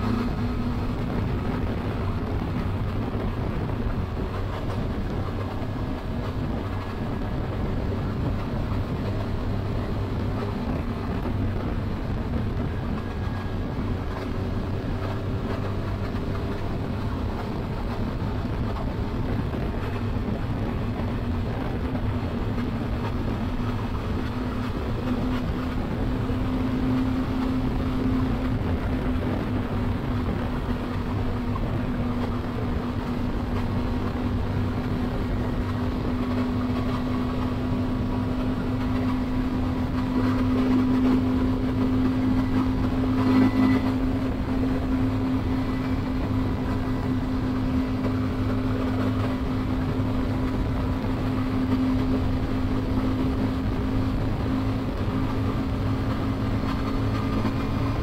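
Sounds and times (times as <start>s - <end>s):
motorcycle engine cruising: 0.0s - 58.0s
road noise: 0.0s - 58.0s
wind noise: 0.0s - 58.0s.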